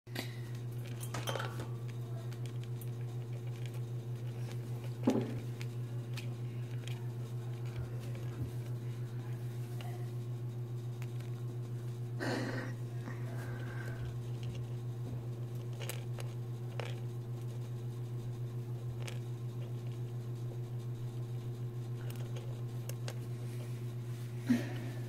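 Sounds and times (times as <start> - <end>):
steady low hum: 0.1 - 25.0
hamster clicks and scratches: 0.3 - 12.1, 12.8 - 24.1.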